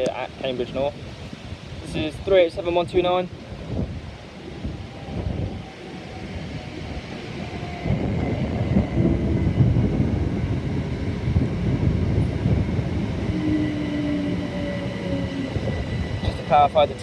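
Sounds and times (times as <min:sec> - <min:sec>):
faint train whine: 0:00.0 - 0:17.0
train low rumble: 0:00.0 - 0:17.0.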